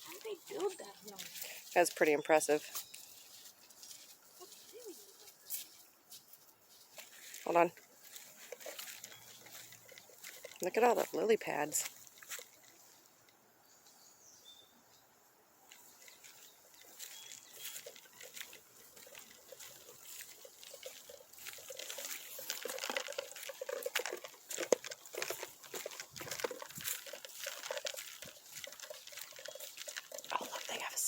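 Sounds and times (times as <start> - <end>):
footsteps crunching on wooded path: 0.0 - 13.2, 15.7 - 31.0.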